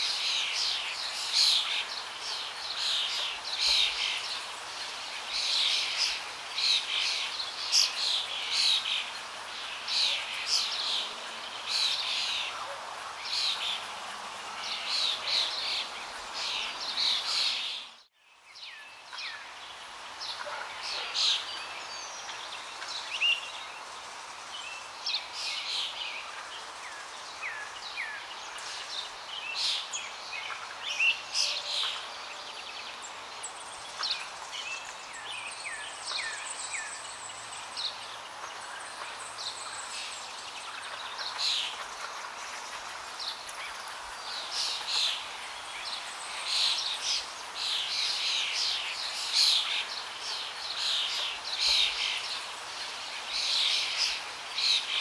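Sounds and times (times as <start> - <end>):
small birds chirping: 0.0 - 55.0
steady background hiss: 0.0 - 55.0.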